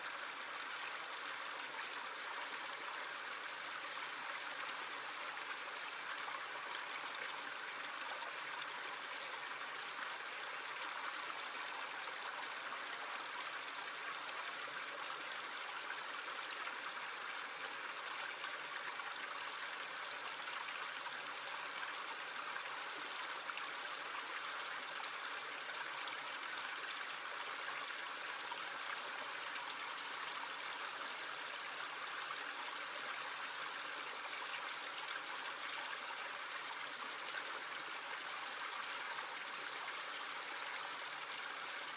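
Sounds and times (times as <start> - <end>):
stream running over stones: 0.0 - 41.9.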